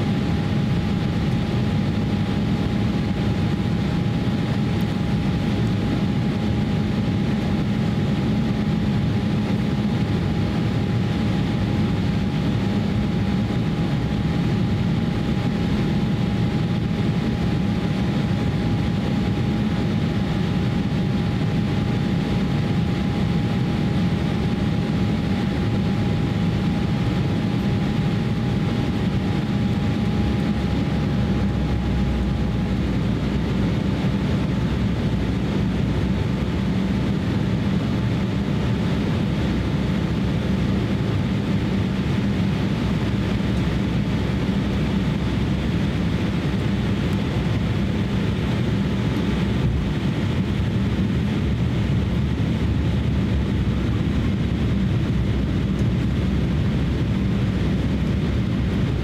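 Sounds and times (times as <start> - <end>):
jet cabin engine drone: 0.0 - 59.0
thin steady whine: 0.0 - 59.0.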